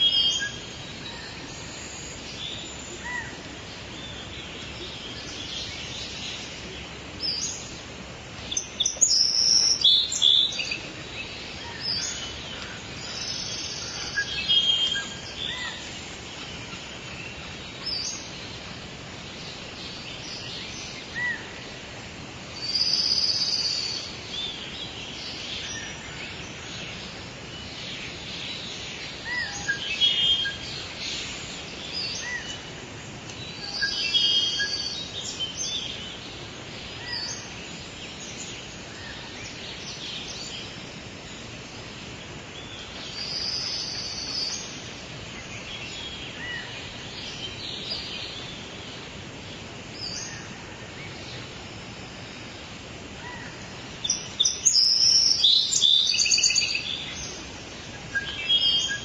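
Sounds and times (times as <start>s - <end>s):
birds chirping and calling: 0.0s - 21.8s, 22.6s - 51.7s, 53.2s - 59.0s
steady outdoor hiss: 0.0s - 59.0s.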